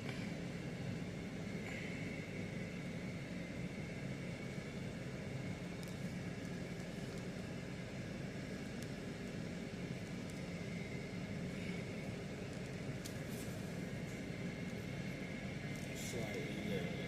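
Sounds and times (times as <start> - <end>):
faint thin whine: 0.0 - 17.0.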